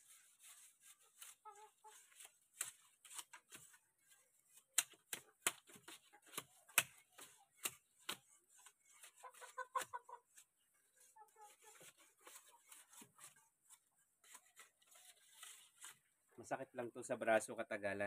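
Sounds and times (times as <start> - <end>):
knife scraping bamboo: 0.0 - 16.1.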